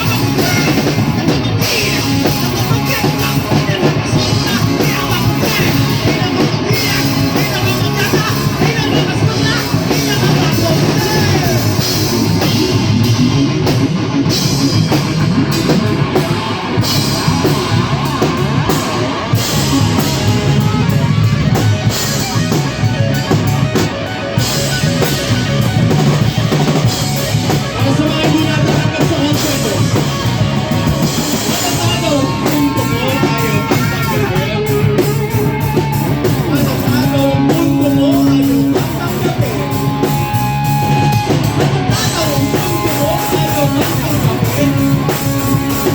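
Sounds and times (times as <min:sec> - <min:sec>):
drum kit: 0:00.0 - 0:45.9
electric guitar: 0:00.0 - 0:45.9
live rock band: 0:00.0 - 0:45.9.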